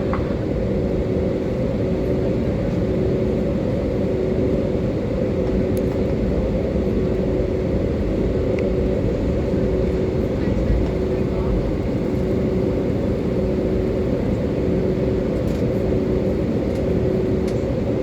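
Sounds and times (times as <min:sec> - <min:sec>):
aircraft cabin engine drone: 0:00.0 - 0:18.0.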